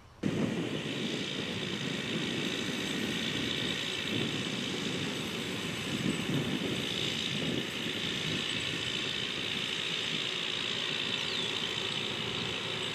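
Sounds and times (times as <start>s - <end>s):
tractor engine running: 0.0s - 12.9s.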